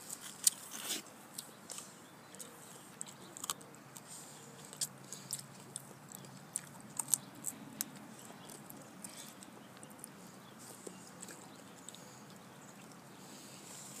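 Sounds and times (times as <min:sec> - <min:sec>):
bacon being chewed: 0:00.0 - 0:14.0.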